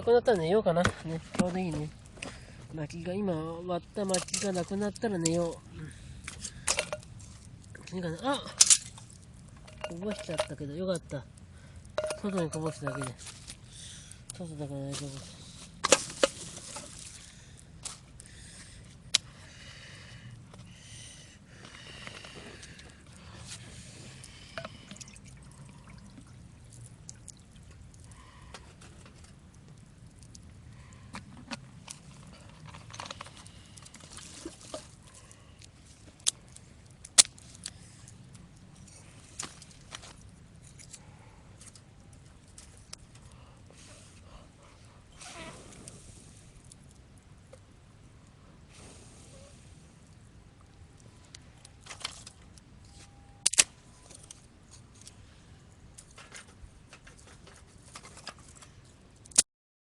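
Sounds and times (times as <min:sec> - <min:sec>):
campfire crackling: 0:00.0 - 0:59.4
firewood popping: 0:00.3 - 0:59.4.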